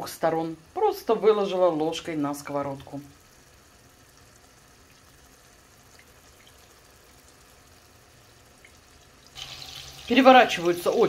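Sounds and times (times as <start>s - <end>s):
patties sizzling in oil: 0.0s - 11.0s.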